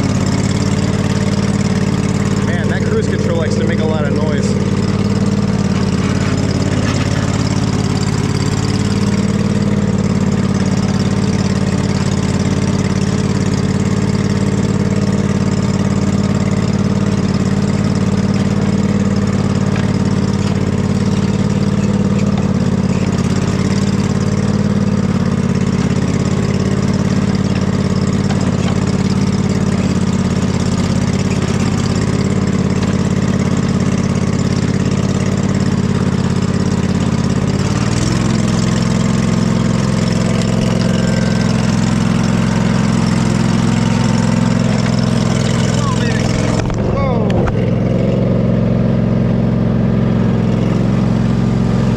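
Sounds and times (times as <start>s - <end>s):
riding lawn mower engine running: 0.0s - 51.9s.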